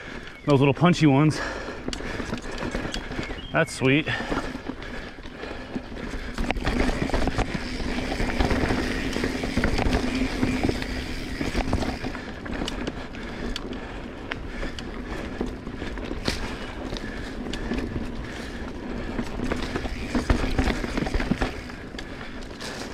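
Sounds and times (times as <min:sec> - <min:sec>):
tyres rushing on dirt: 0:00.0 - 0:22.9
bike clicks and knocks: 0:01.6 - 0:03.5, 0:04.1 - 0:22.9.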